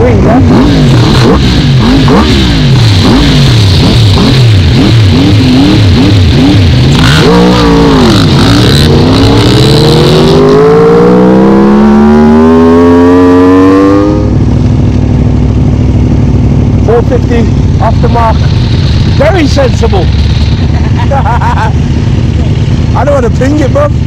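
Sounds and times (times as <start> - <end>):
quad engine revving: 0.0 - 14.6, 16.9 - 23.9.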